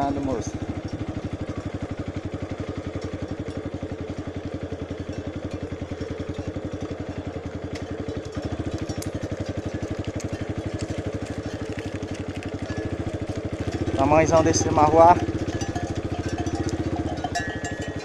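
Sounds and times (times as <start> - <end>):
motorcycle engine puttering: 0.0 - 18.0.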